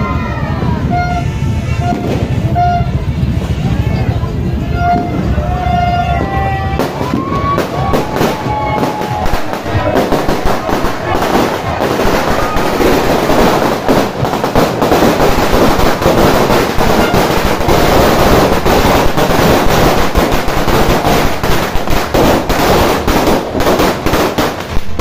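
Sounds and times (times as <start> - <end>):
firecrackers exploding: 0.6 - 25.0.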